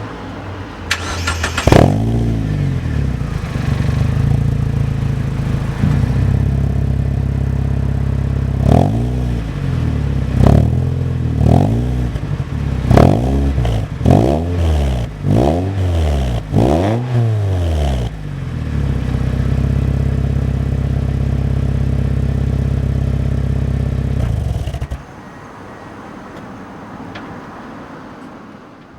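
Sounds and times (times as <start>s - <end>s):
car engine idling and revving: 0.0s - 25.4s.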